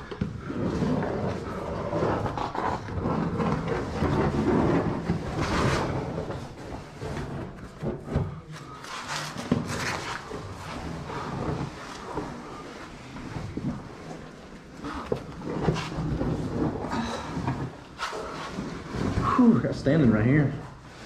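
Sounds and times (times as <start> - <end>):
clothing scraping against rock: 0.4 - 19.7.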